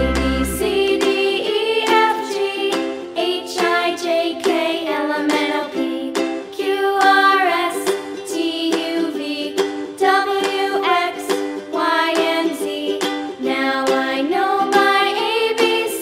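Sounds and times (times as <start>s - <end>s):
children's tune with plucked strings: 0.0s - 16.0s.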